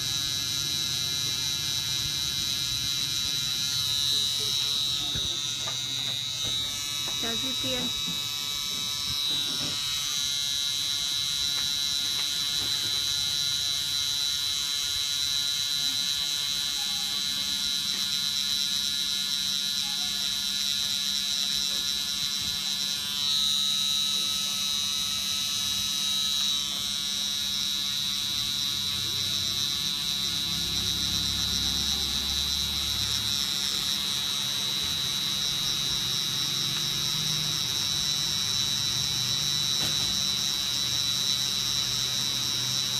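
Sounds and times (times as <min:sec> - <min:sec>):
tattoo pen whining: 0:00.0 - 0:42.9.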